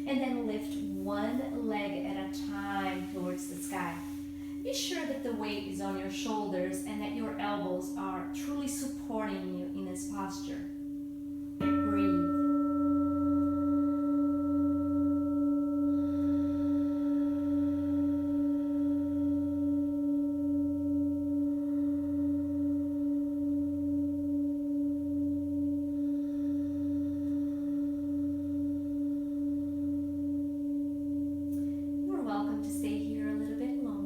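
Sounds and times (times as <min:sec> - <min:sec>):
singing bowl ringing: 0:00.0 - 0:06.5, 0:09.6 - 0:34.0.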